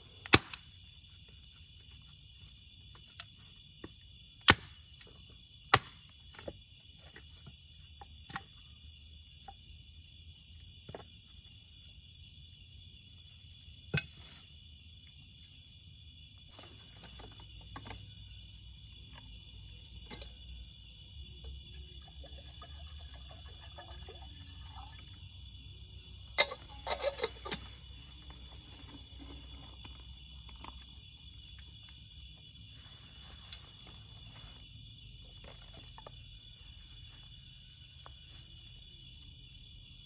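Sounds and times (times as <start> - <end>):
night insects chirping: 0.0 - 40.0.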